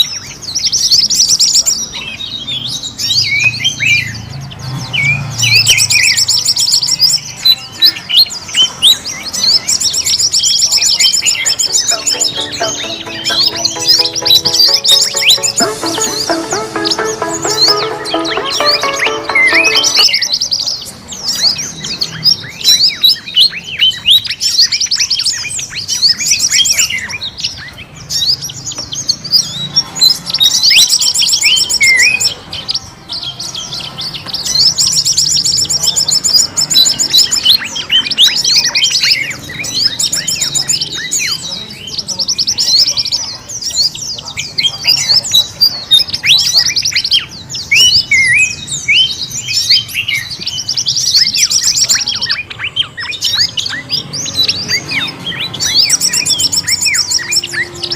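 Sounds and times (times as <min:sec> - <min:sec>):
chorus of small birds chirping: 0:00.0 - 0:12.3, 0:20.3 - 0:57.9.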